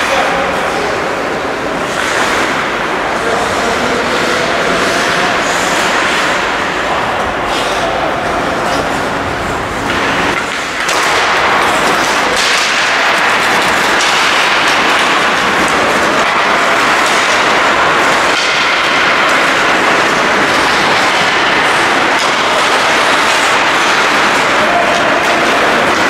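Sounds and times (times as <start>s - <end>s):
ice skates scraping: 0.0s - 26.0s.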